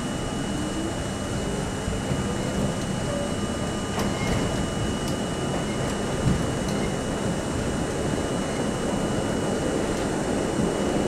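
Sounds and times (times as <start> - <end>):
train motor whine: 0.0 - 11.0
train wheels rumbling on rails: 0.0 - 11.0.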